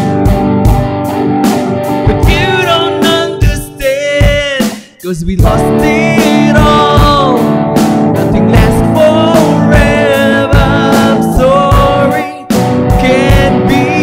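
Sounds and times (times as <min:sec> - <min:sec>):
electric guitar and drums: 0:00.0 - 0:14.0
man singing: 0:02.0 - 0:14.0.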